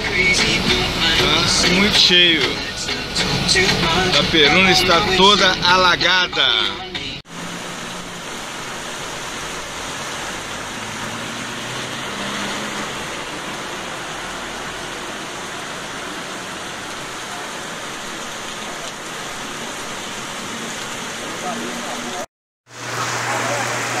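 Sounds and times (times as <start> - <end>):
heavy rain on a street: 0.0 - 6.0, 7.3 - 24.0
runoff water running: 0.0 - 24.0.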